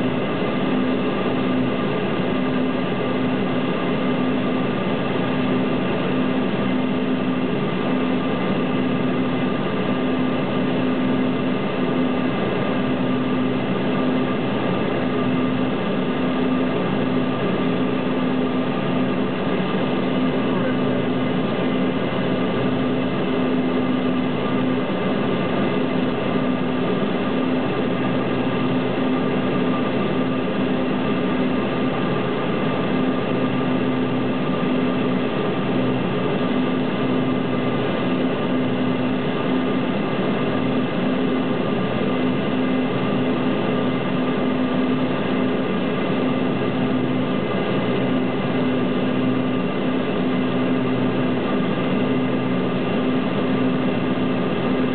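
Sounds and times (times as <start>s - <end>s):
constant low hum: 0.0s - 54.9s
propeller plane cabin drone: 0.0s - 54.9s.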